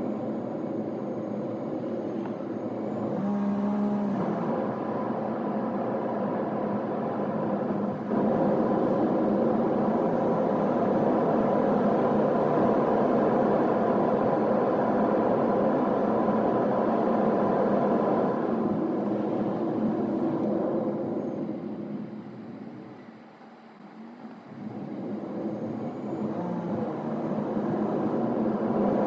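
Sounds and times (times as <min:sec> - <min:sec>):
car road and engine noise: 0:00.0 - 0:29.0
faint hum: 0:00.0 - 0:29.0.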